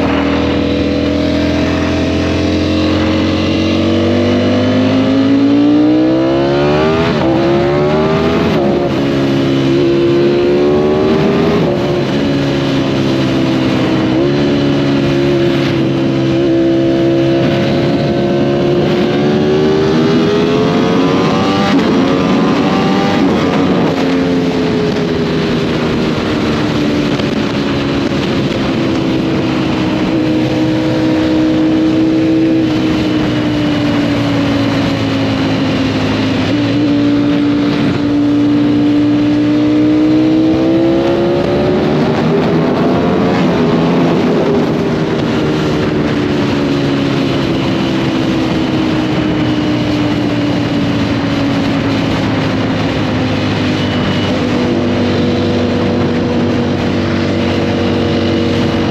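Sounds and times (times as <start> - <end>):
motorcycle engine running: 0.0 - 58.9
wind rush: 0.0 - 58.9.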